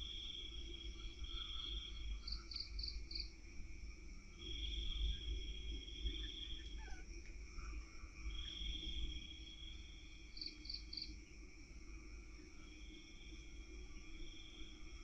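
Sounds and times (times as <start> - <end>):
high insect hum: 0.0 - 15.0
insect trills: 0.0 - 15.0.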